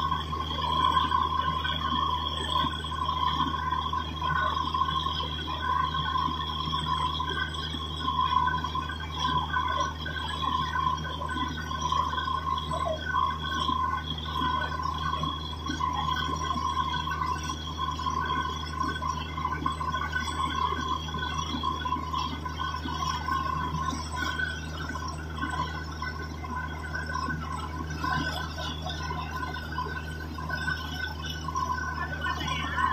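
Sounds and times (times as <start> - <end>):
drilling rig high whine: 0.0 - 32.9
drilling rig low hum: 0.0 - 32.9.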